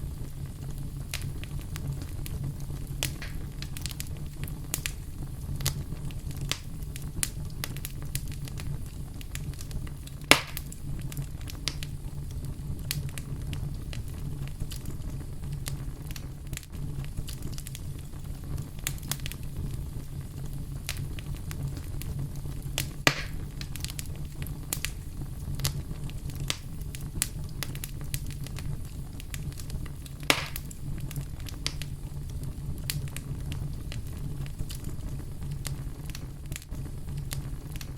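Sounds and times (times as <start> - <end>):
campfire crackling: 0.0 - 37.9
fire popping: 0.0 - 37.9
low rumble of flames: 0.0 - 37.9.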